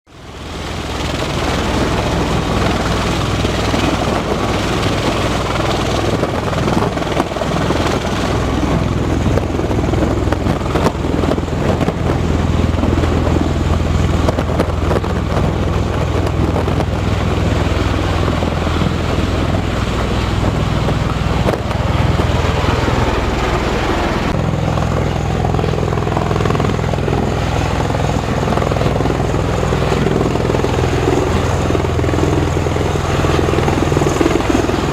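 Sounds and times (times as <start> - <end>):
helicopter turbine engines droning: 0.1 - 34.9.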